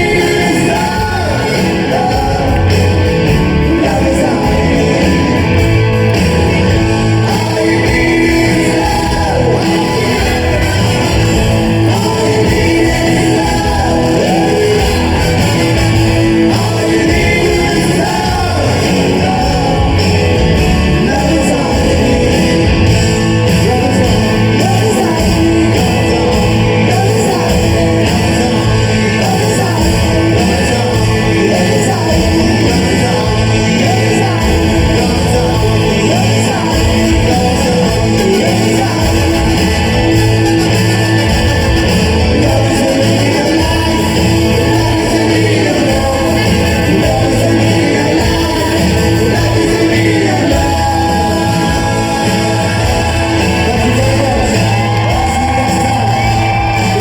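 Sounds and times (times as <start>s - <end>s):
crowd shouting: 0.0s - 57.0s
person singing: 0.0s - 57.0s
rock band playing: 0.0s - 57.0s.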